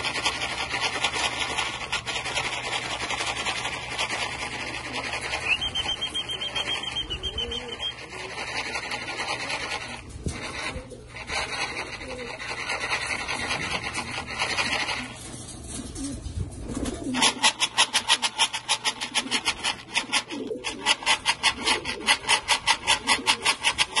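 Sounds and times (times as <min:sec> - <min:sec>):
loud harsh rasping: 0:00.0 - 0:16.1, 0:16.8 - 0:24.0
pigeons cooing: 0:00.0 - 0:24.0.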